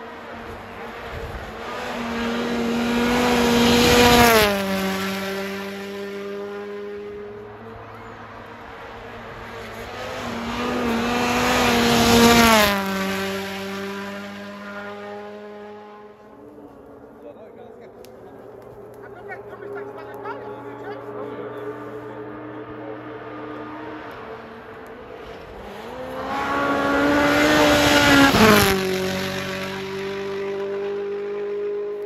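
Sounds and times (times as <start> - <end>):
rally car engine passing by: 0.0 - 32.0.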